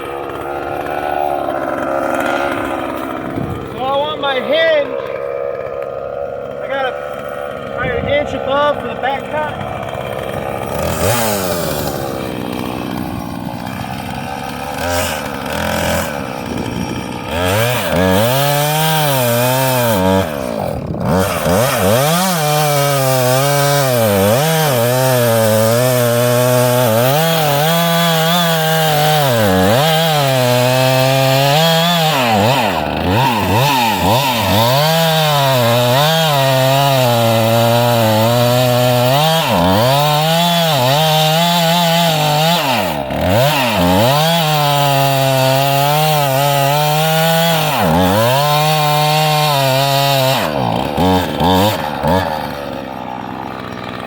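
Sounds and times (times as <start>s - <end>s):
chainsaw cutting into wood: 0.0s - 54.0s.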